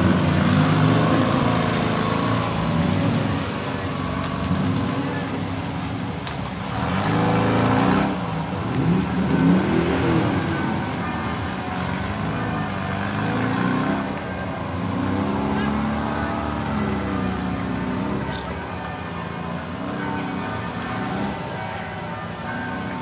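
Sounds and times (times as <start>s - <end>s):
sports car engines running: 0.0s - 23.0s.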